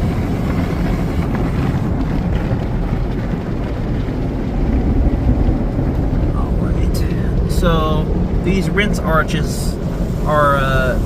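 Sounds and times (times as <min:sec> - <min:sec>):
car wash brushes and water spray: 0:00.0 - 0:11.0.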